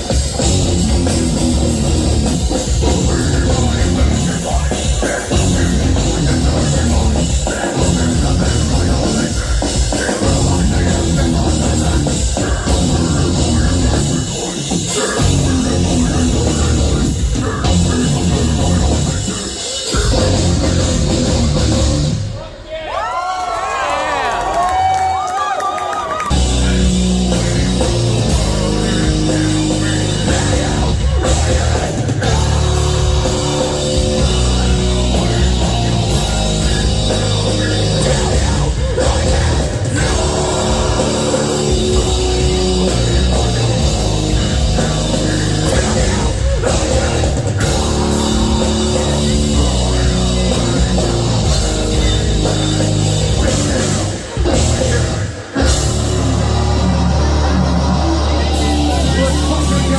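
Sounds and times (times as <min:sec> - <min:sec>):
distorted guitars: 0:00.0 - 0:22.7, 0:26.3 - 0:59.9
heavy metal band playing: 0:00.0 - 0:23.0, 0:26.2 - 0:59.9
drum kit: 0:00.0 - 0:23.1, 0:26.2 - 0:59.9.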